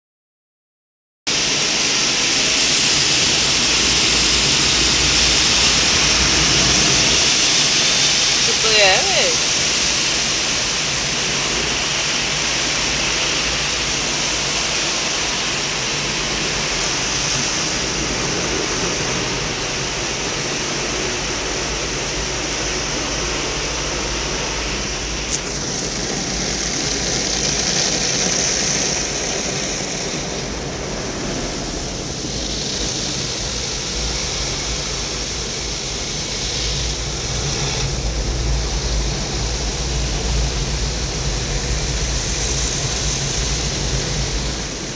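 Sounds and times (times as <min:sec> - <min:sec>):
water spray and spinning brushes: 0:01.3 - 0:44.9.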